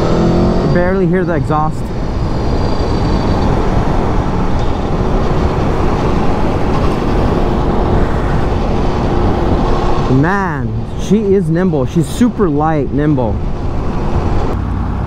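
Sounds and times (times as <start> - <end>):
motorcycle engine: 0.0 - 15.0
wind and road rush: 0.0 - 15.0.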